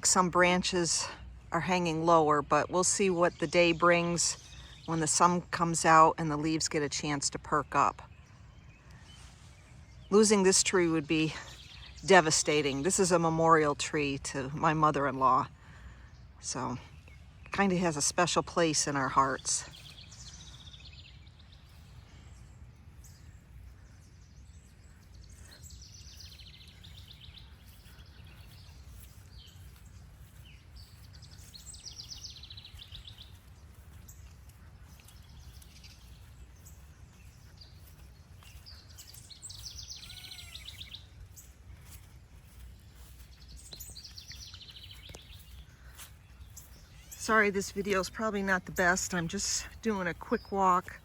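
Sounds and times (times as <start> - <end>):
songbirds chirping and singing: 0.0 - 51.0.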